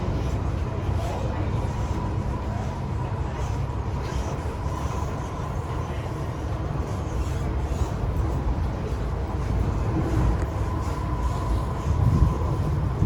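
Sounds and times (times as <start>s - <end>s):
faint train whine: 0.0s - 13.0s
train rumbling on track: 0.0s - 13.0s.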